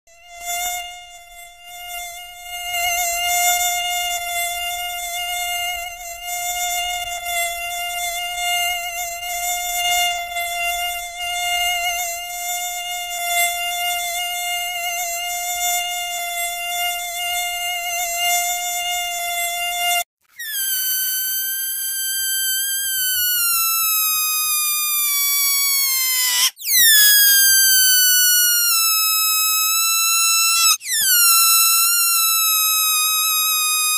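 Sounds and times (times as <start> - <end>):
mosquito whine: 0.1 - 33.9.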